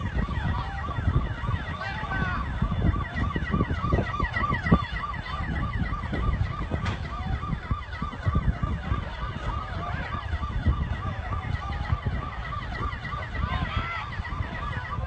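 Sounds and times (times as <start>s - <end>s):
electronic siren yelping: 0.0s - 15.0s
heavy low rumble: 0.0s - 15.0s.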